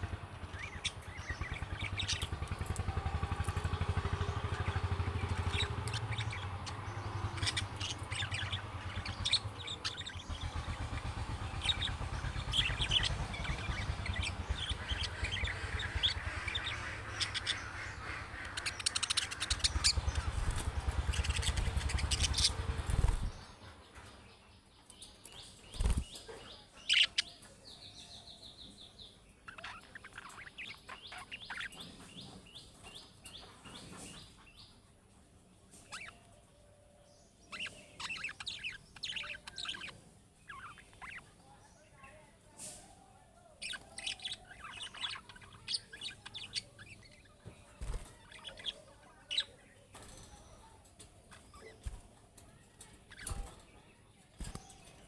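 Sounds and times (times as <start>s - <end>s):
budgerigars chirping and warbling: 0.0s - 55.0s.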